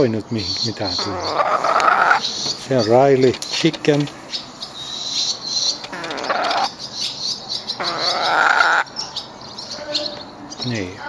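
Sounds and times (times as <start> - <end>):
hen chirping and calling: 0.0 - 11.0.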